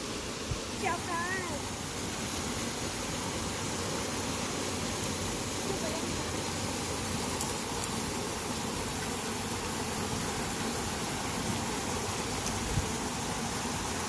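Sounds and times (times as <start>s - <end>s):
waterfalls and stream rushing: 0.0s - 14.0s.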